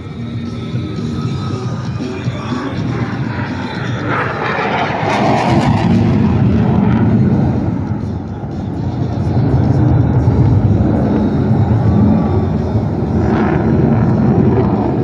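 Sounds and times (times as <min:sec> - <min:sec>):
jet roaring past: 0:00.0 - 0:15.0.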